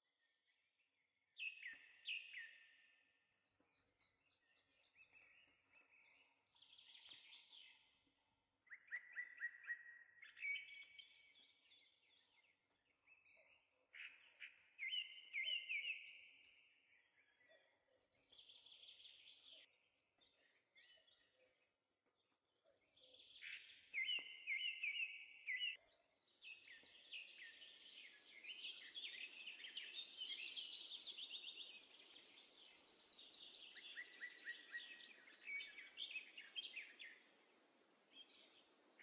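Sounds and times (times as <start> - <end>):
faint birdsong: 0.0 - 39.0.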